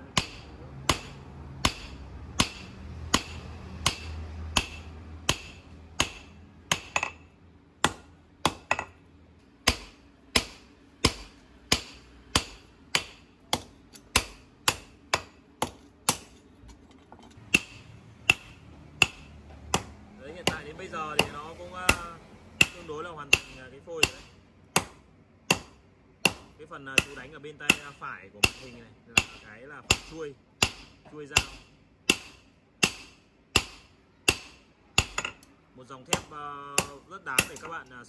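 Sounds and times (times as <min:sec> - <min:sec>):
hammer striking hot metal: 0:00.0 - 0:07.2, 0:07.8 - 0:09.0, 0:09.6 - 0:16.4, 0:17.4 - 0:35.5, 0:36.1 - 0:37.8.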